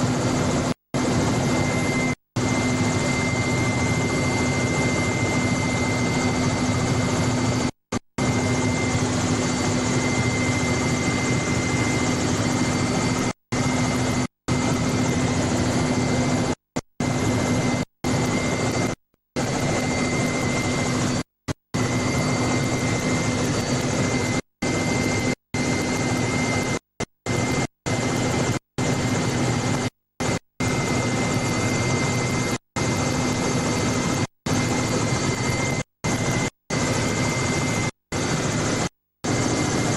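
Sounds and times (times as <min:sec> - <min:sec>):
constant engine whine: 0:00.0 - 0:39.9
helicopter rotor and engine noise: 0:00.0 - 0:39.9.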